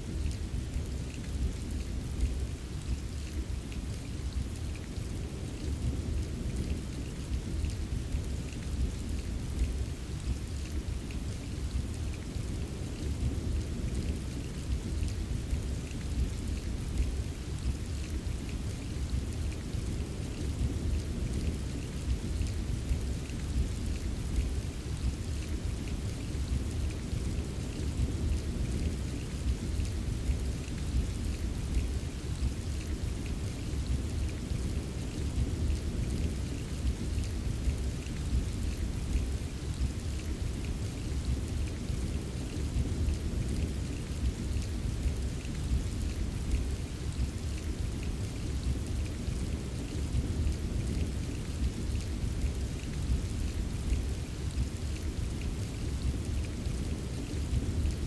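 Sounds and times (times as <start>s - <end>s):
patter of raindrops: 0.0s - 58.0s
steady rain: 0.0s - 58.0s.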